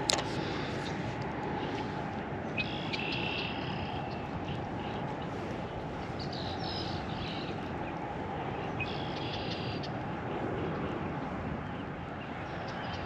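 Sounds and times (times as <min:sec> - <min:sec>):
birds chirping: 0:00.0 - 0:13.0
low outdoor rushing noise: 0:00.0 - 0:13.0.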